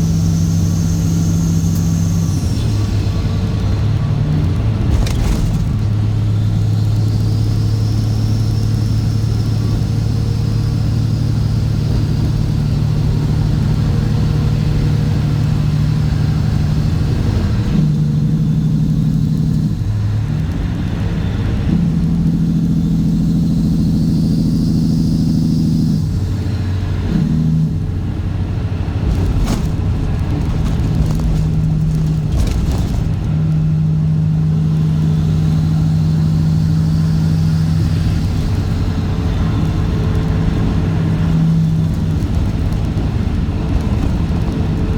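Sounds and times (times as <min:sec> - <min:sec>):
diesel truck engine exhaust: 0:00.0 - 0:44.9.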